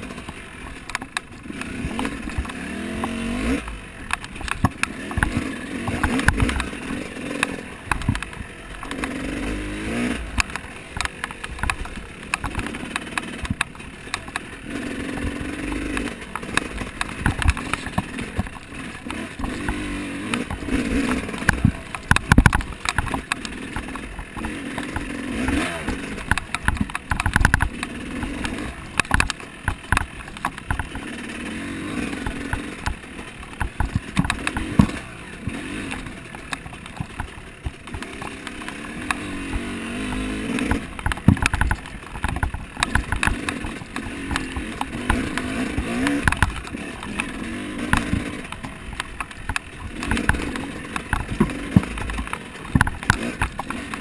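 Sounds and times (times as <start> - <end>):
knocks and rattles from bumps: 0.0 - 54.0
off-road vehicle motor: 0.0 - 54.0.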